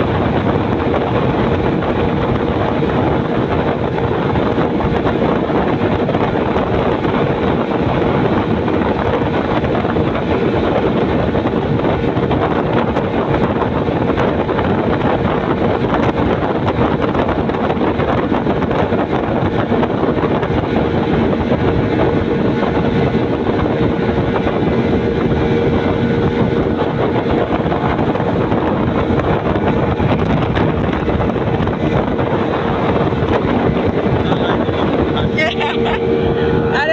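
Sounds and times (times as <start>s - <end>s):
rush of wind and water: 0.0s - 36.9s
speedboat engine hum: 0.0s - 36.9s.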